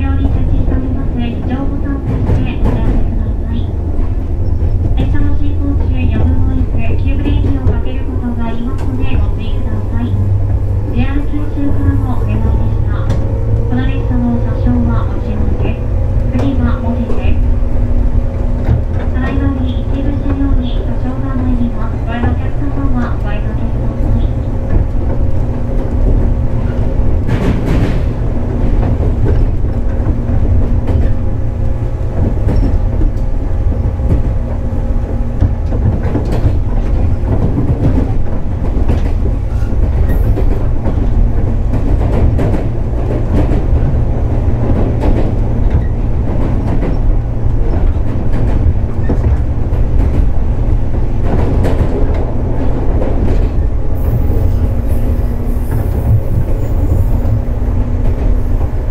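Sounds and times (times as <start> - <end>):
constant hum: 0.0 - 54.8
train wheels rumbling: 0.0 - 58.9
wheels clacking over rail joints: 0.0 - 58.9.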